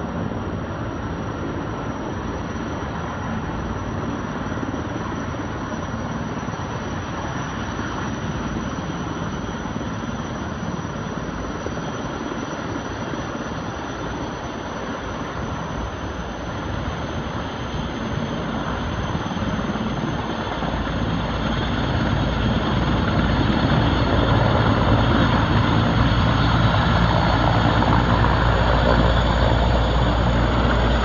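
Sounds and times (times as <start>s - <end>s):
helicopter hovering: 0.0s - 31.0s.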